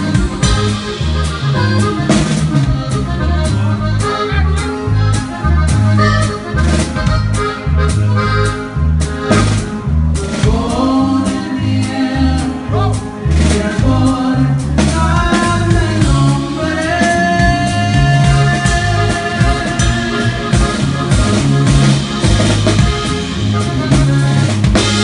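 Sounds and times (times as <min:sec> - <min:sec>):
accordion: 0:00.0 - 0:25.0
drum kit and timbales beat: 0:00.0 - 0:25.0
low bass notes: 0:00.0 - 0:25.0.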